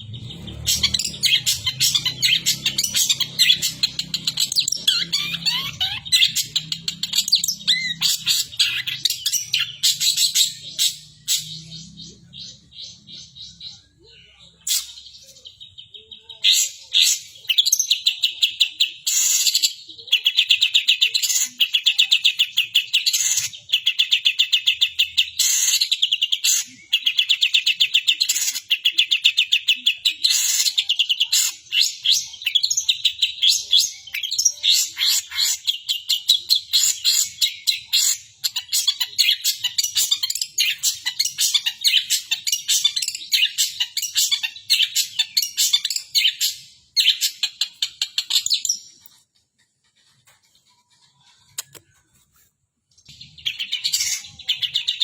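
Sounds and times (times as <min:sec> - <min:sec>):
bird fast chattering song: 0:00.0 - 0:52.2, 0:53.0 - 0:55.0.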